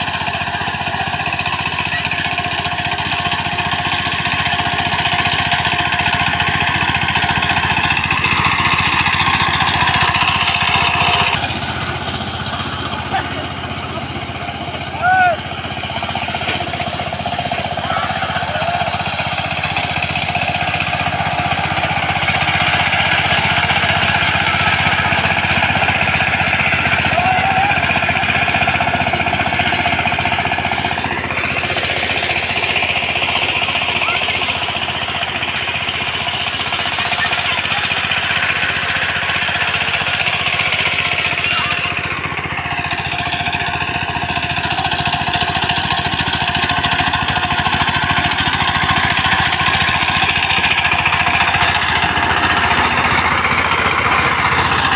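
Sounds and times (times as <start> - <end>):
power tiller engine knocking: 0.0 - 54.9.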